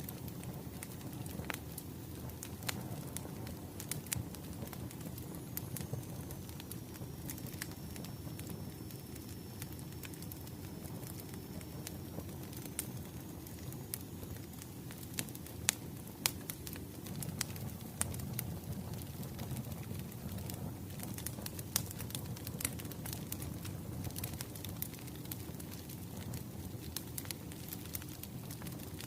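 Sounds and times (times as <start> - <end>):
fire popping: 0.0 - 29.0
low rumble of burning logs: 0.0 - 29.0.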